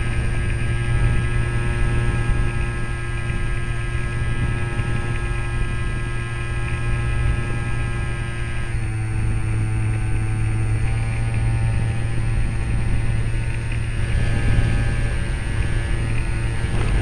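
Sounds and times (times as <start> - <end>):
model plane motor droning: 0.0 - 17.0
rushing wind noise: 0.0 - 17.0.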